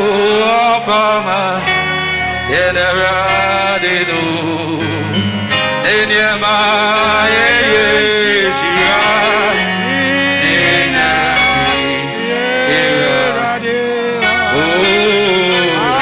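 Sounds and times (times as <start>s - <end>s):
instrumental accompaniment: 0.0s - 16.0s
man singing into a microphone: 0.0s - 16.0s.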